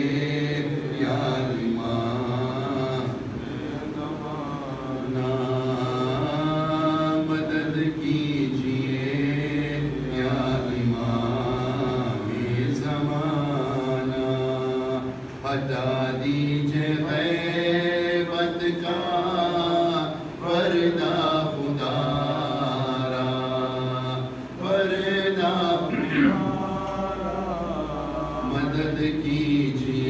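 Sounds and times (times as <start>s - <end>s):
man chanting: 0.0s - 30.0s.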